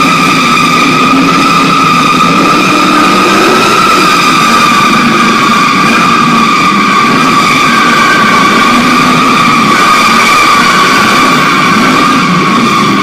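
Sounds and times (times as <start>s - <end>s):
car engine running: 0.0s - 13.0s
tyres screeching: 0.0s - 13.0s.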